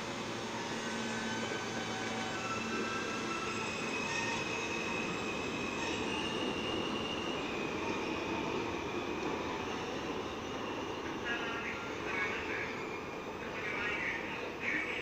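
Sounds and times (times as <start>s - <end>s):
high steady squeal: 0.3s - 13.3s.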